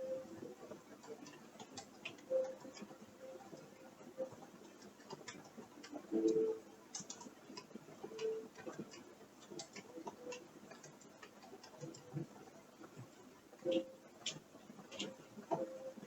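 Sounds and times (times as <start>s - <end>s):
creaks and ticks: 0.0s - 16.0s.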